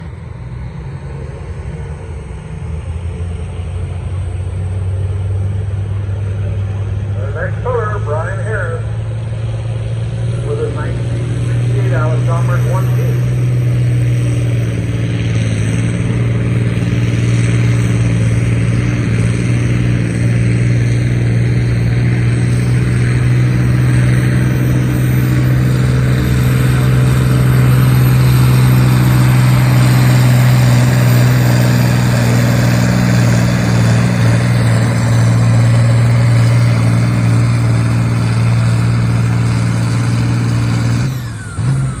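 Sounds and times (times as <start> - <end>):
tractor engine running hard: 0.0 - 42.0.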